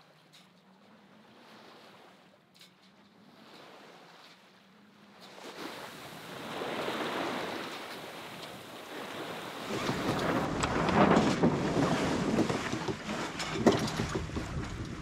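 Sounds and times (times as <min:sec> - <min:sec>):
sea water washing along hull: 0:00.0 - 0:15.0.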